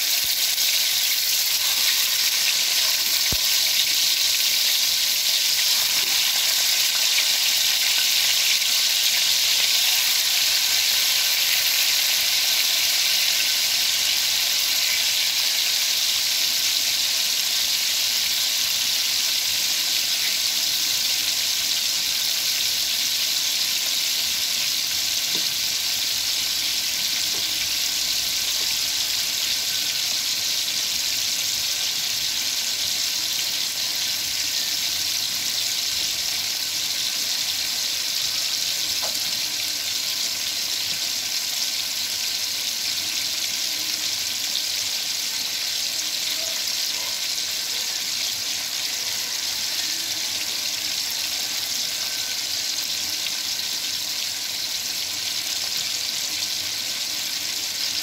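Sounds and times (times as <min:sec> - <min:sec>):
food frying sizzle: 0:00.0 - 0:58.0.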